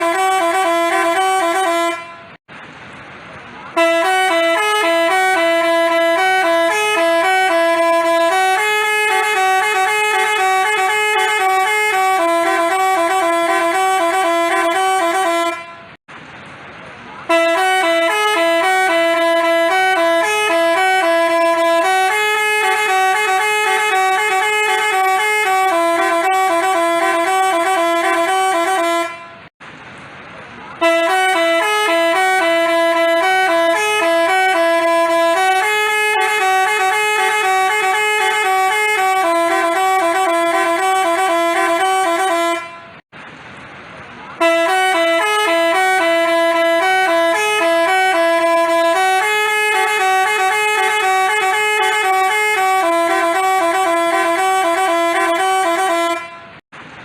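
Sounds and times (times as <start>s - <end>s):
bus horn playing a melody: 0.0s - 2.4s, 3.7s - 16.0s, 17.2s - 29.5s, 30.8s - 43.0s, 44.4s - 56.6s.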